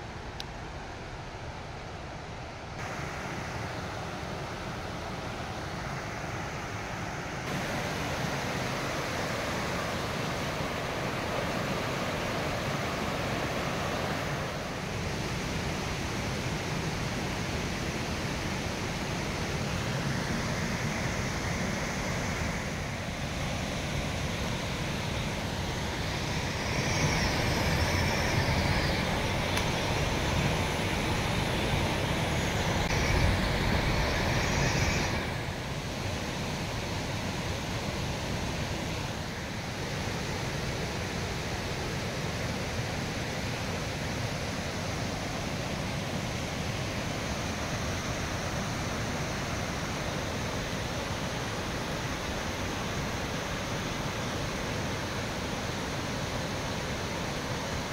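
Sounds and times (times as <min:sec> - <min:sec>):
water rushing over cascades: 0:02.8 - 0:57.9.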